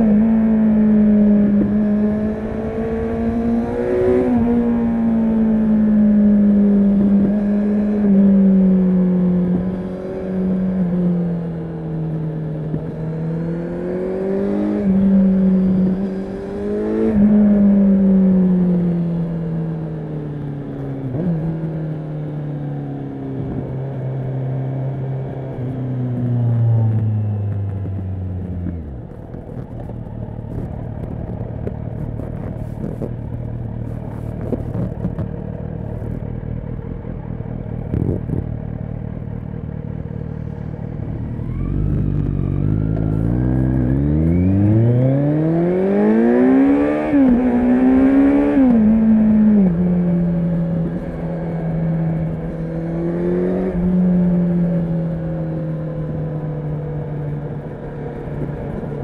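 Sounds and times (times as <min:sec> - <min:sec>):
motorcycle engine revving: 0:00.0 - 0:20.0, 0:23.4 - 0:59.0.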